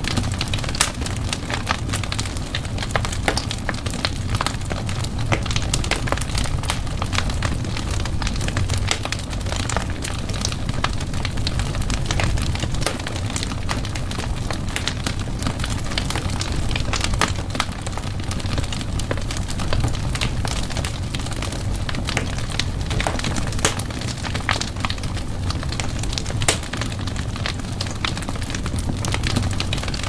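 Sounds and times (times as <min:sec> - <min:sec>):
fire flames rumbling: 0:00.0 - 0:30.0
wood fire crackling and popping: 0:00.0 - 0:30.0.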